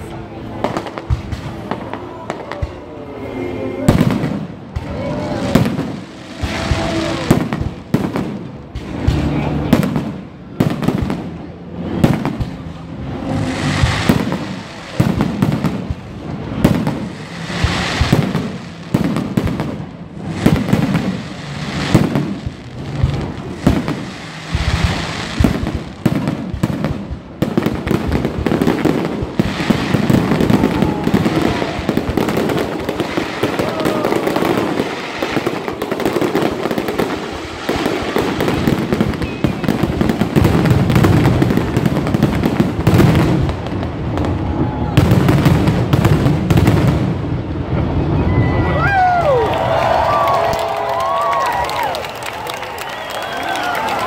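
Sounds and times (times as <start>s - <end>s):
fireworks bursting: 0.0s - 54.0s
fireworks crackling: 0.0s - 54.0s.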